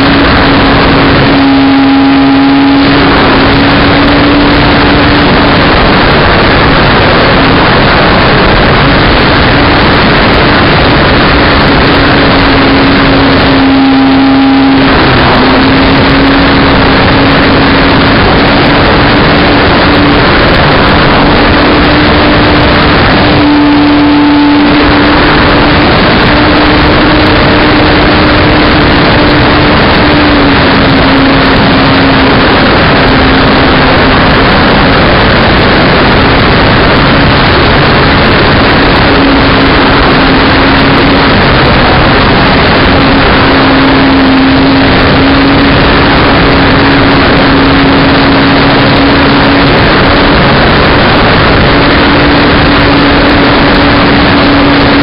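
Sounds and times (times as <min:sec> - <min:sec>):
model aircraft motor droning: 0:00.0 - 0:55.0
wind rush on microphone: 0:00.0 - 0:55.0.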